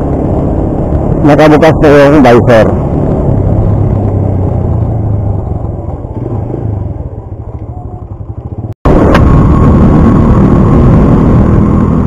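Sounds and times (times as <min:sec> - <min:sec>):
motorcycle engine hum: 0:00.0 - 0:12.0
wind rumble: 0:00.0 - 0:12.0.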